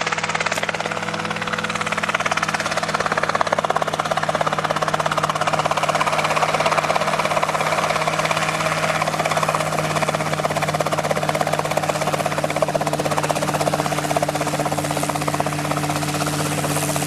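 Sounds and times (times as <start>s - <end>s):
helicopter hovering: 0.0s - 17.0s.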